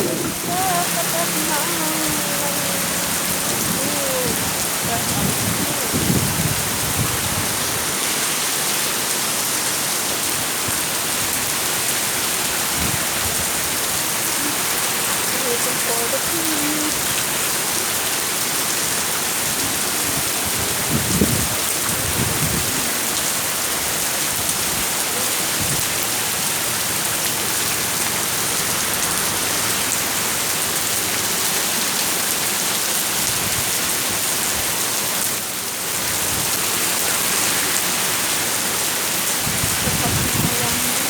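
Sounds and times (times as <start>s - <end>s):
heavy rain: 0.0s - 41.0s.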